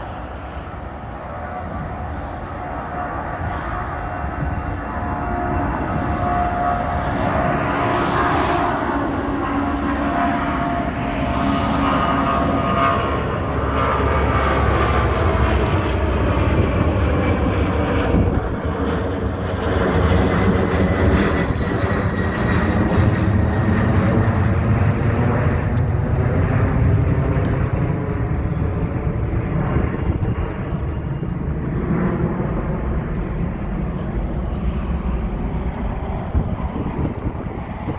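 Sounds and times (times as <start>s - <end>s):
jet engines at takeoff power: 0.0s - 37.9s.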